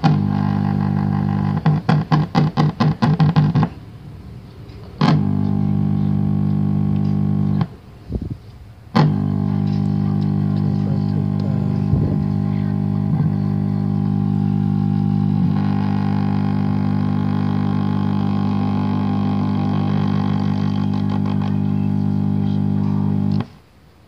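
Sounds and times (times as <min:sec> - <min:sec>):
television buzzing hum: 0:00.0 - 0:23.8.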